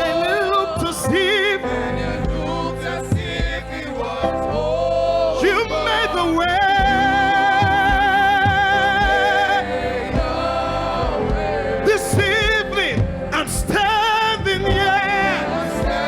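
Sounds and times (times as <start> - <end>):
low beat: 0.0 - 4.6, 5.4 - 16.0
voices singing gospel: 0.0 - 16.0.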